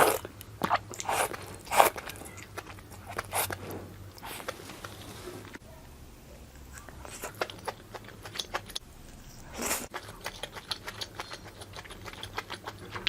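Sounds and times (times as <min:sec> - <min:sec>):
chewing clicks and crunches: 0:00.0 - 0:05.0, 0:06.6 - 0:13.0.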